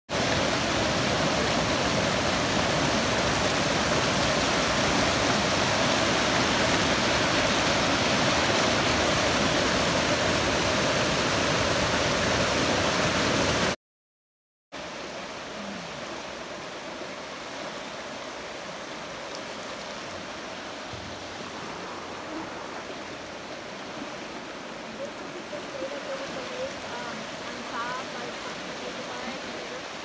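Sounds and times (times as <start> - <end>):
stream rushing over rocks: 0.1 - 13.8, 14.8 - 30.0.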